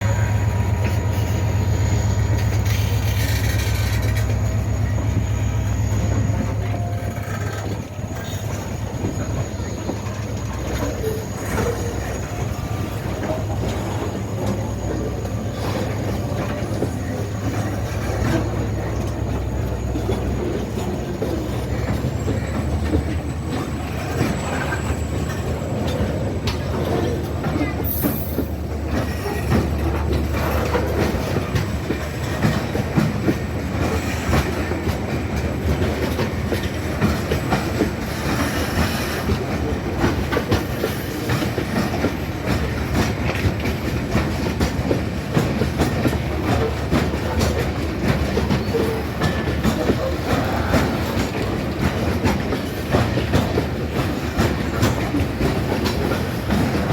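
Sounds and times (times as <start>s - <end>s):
train low rumble: 0.0s - 56.9s
train wheels clickety-clack: 0.0s - 56.9s.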